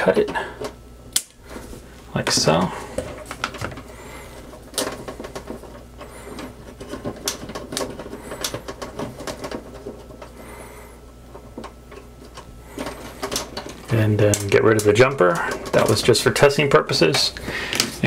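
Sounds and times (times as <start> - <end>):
wire rustling: 0.0 - 18.0.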